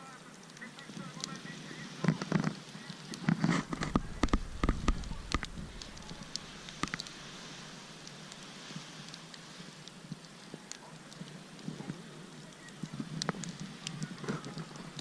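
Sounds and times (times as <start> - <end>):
campfire crackling: 0.0 - 15.0
loud pops from fire: 0.4 - 15.0.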